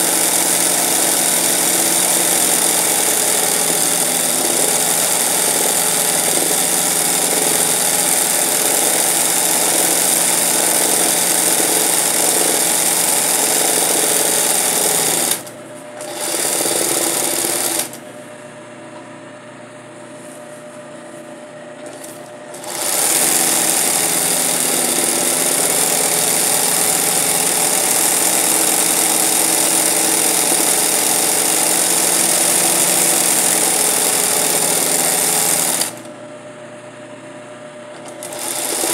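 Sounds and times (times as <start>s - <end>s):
sewing machine running fast: 0.0s - 18.0s, 21.8s - 36.1s, 38.0s - 38.9s.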